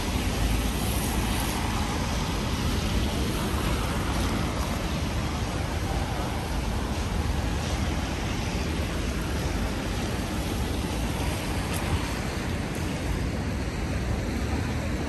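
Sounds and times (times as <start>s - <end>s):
rain hissing: 0.0s - 15.0s
traffic rumble: 0.0s - 15.0s.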